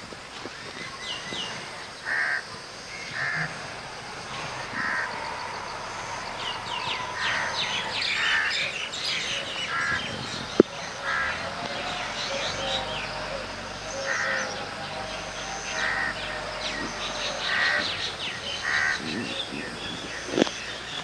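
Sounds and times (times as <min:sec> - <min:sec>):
small birds chirping: 0:00.0 - 0:21.0
crows cawing: 0:02.0 - 0:19.5.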